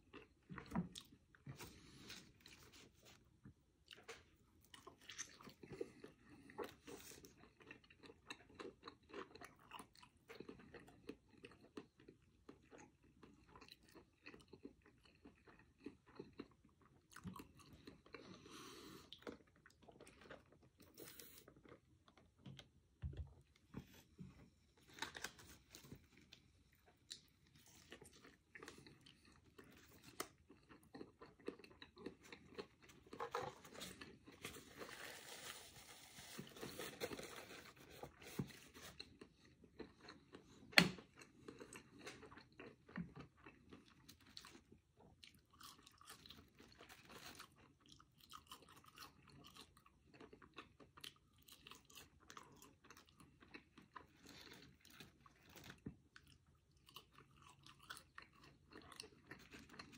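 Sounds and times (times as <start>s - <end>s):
man chewing a burger: 0.0s - 22.7s, 25.4s - 59.9s.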